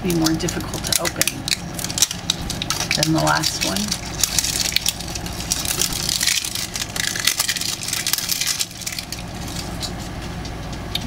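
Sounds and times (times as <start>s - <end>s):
plastic wrapping crinkling: 0.0s - 11.0s
steady low hum: 0.0s - 11.0s.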